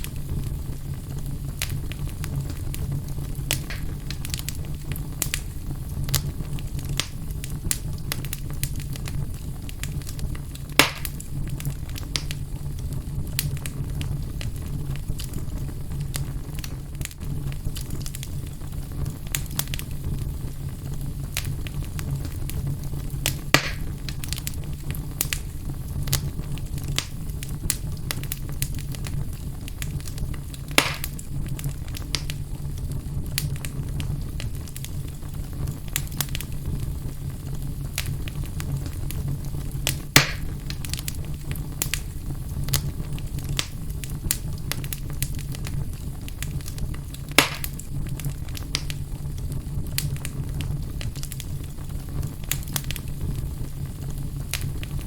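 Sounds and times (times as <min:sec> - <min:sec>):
fire crackling and popping: 0:00.0 - 0:55.0
low steady rumble: 0:00.0 - 0:55.0.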